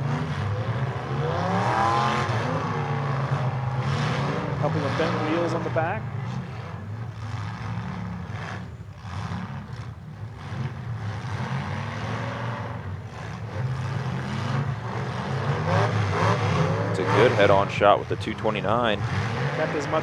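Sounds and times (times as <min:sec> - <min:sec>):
car engines revving: 0:00.0 - 0:20.0
low engine hum: 0:00.0 - 0:20.0.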